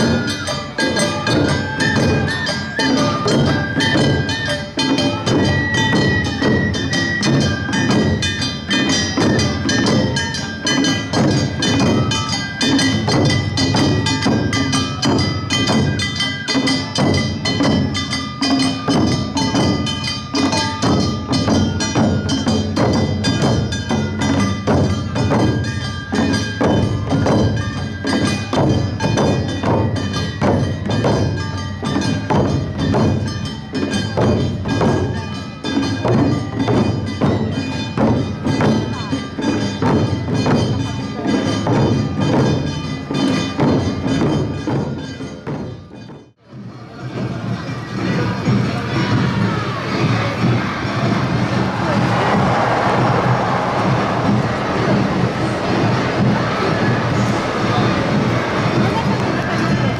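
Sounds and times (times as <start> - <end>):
hand gongs clanging: 0.0 - 46.3, 49.2 - 59.9
drum beats: 0.0 - 59.9.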